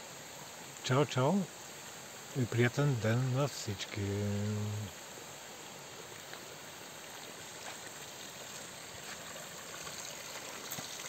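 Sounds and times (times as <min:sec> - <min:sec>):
mountain water trickling: 0:00.0 - 0:11.0.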